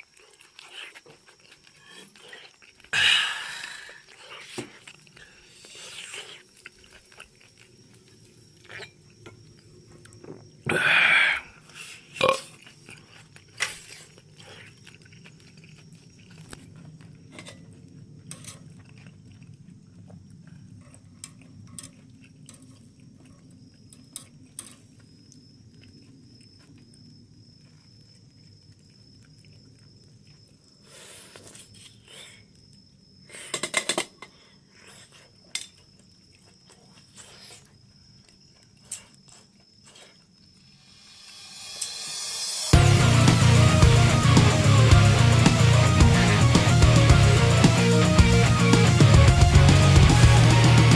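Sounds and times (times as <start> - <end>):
person chewing food: 0.0 - 33.2, 34.5 - 44.0.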